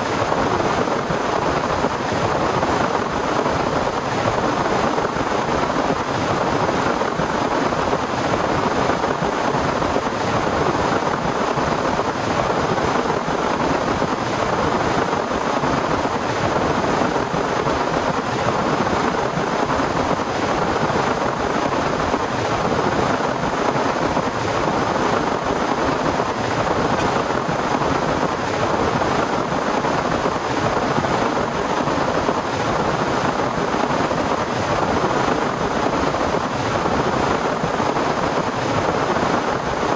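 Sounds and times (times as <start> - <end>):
torrential rain pouring: 0.0 - 39.9.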